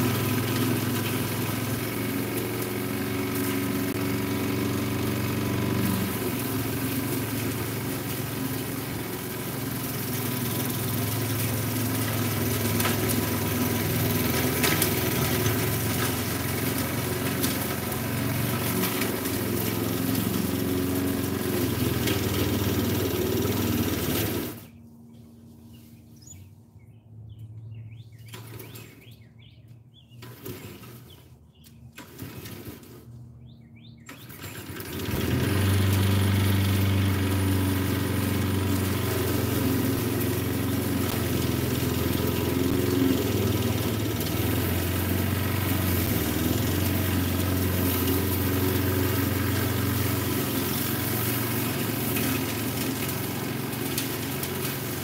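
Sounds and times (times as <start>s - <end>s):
lawn mower engine running: 0.0s - 26.5s, 27.2s - 55.0s.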